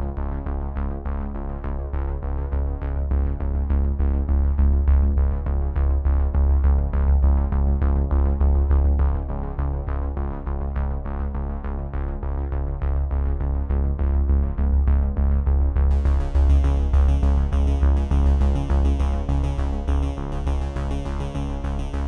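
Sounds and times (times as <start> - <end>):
deep bass: 0.0 - 22.0.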